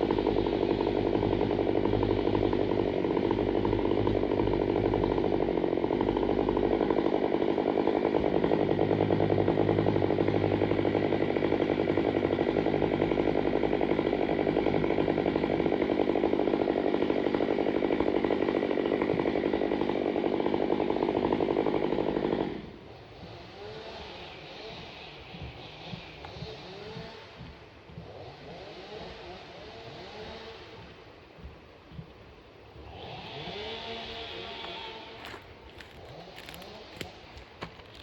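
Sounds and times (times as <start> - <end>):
chainsaw running at high revs: 0.0 - 38.0.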